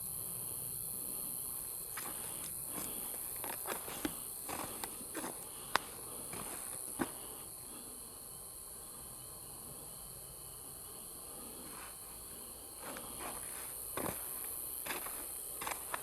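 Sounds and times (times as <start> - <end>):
night insects chirping: 0.0 - 16.0.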